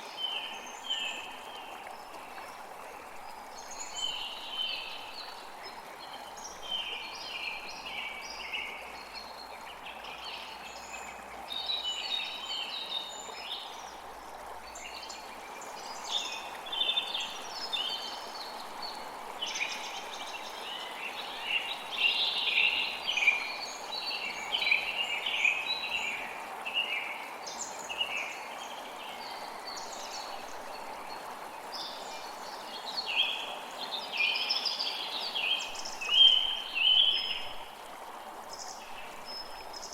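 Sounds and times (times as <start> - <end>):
flowing creek: 0.0 - 39.9.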